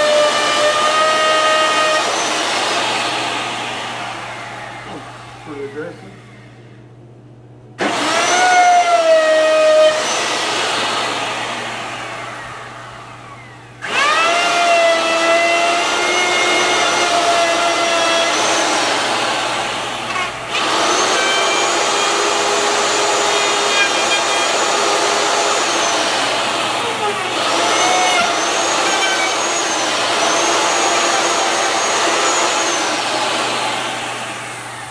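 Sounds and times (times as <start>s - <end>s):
electric router whining: 0.0s - 7.0s, 7.8s - 34.9s.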